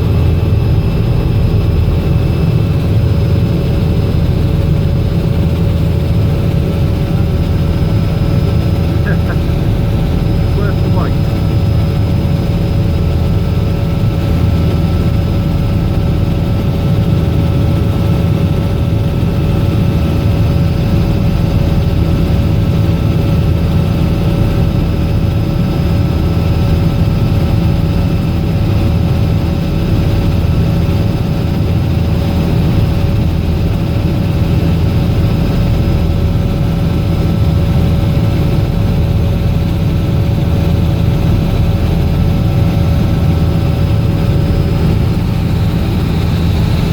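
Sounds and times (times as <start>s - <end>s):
helicopter engine and rotors: 0.0s - 46.9s.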